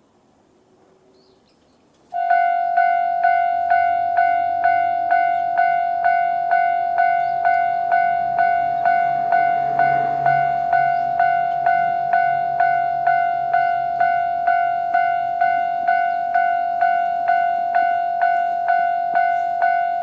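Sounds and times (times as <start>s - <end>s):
level-crossing alarm dinging: 2.2s - 20.0s.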